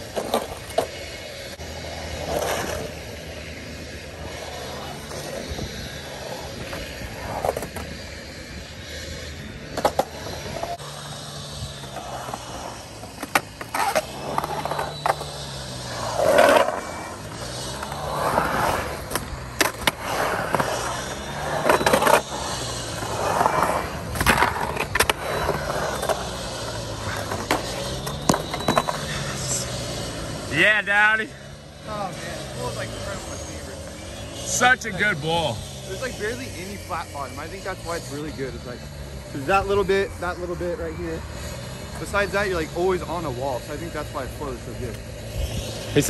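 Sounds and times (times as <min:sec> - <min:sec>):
skateboard wheels rolling on concrete: 0:00.0 - 0:46.0.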